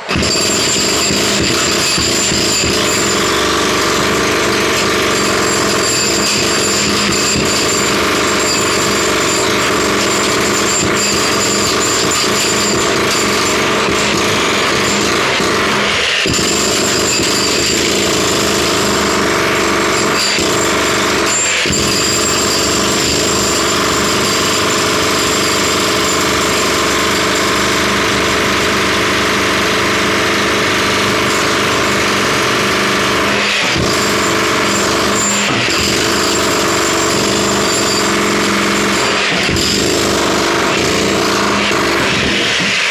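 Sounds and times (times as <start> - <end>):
jackhammer running: 0.0 - 42.9.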